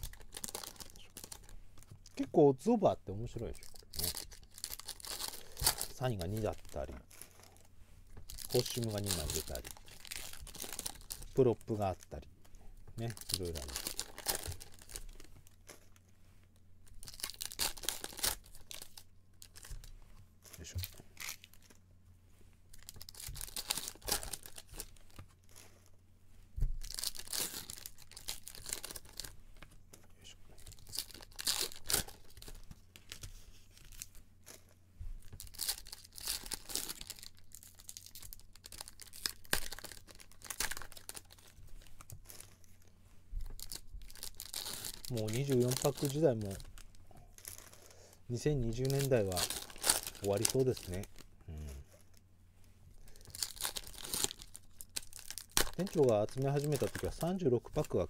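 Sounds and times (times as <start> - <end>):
foil wrappers tearing and crinkling: 0.0 - 1.5, 3.2 - 7.6, 8.3 - 12.2, 13.0 - 16.0, 16.8 - 19.8, 20.5 - 21.8, 22.7 - 25.9, 26.8 - 29.7, 30.6 - 42.9, 43.5 - 51.2, 53.1 - 58.0.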